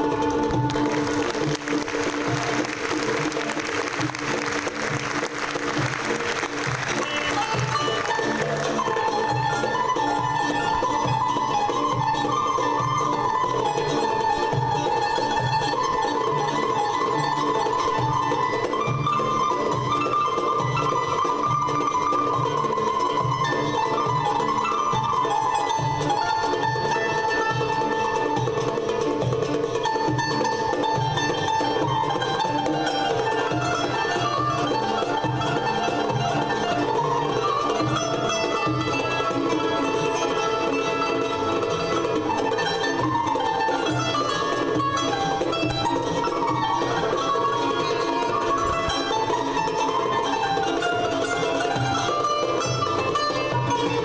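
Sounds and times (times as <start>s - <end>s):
plucked string instrument: 0.0s - 54.0s
violin ensemble playing dance music: 0.0s - 54.0s.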